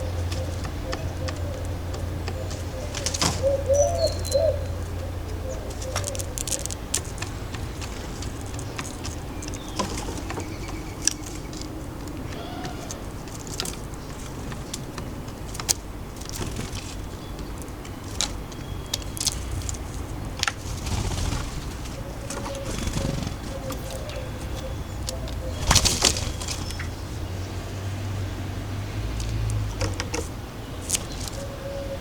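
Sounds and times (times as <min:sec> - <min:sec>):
distant city traffic: 0:00.0 - 0:32.0.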